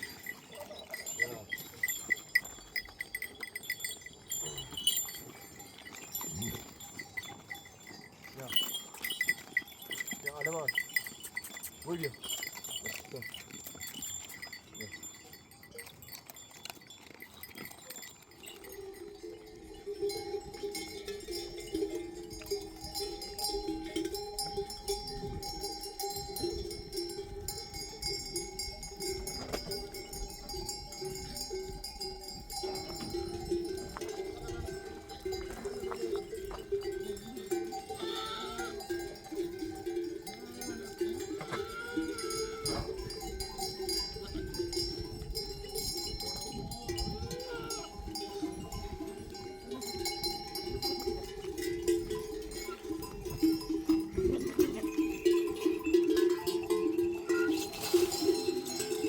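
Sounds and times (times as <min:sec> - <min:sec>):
sheep and goats bleating: 0:00.0 - 0:16.1, 0:17.2 - 0:59.0
livestock bells clanking: 0:00.0 - 0:59.0.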